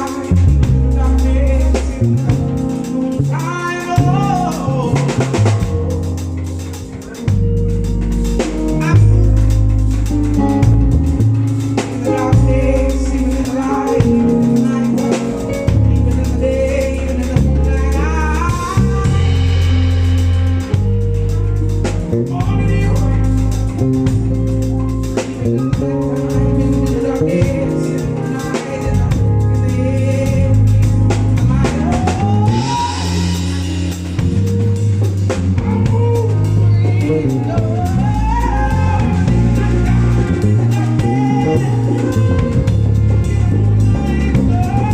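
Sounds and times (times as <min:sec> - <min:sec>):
live band playing: 0:00.0 - 0:44.9.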